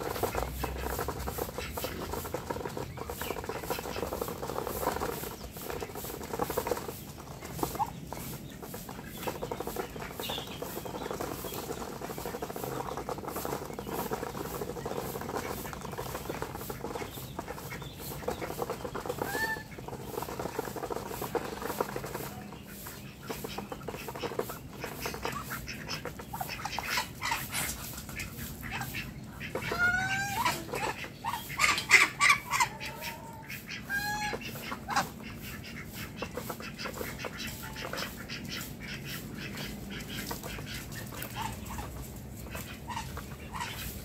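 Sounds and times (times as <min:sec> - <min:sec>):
bills pecking at feed: 0:00.0 - 0:44.0
bird calls: 0:00.0 - 0:44.0.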